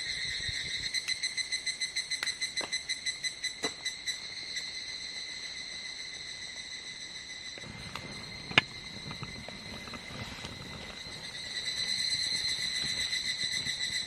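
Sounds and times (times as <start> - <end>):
cicadas calling: 0.0 - 14.0.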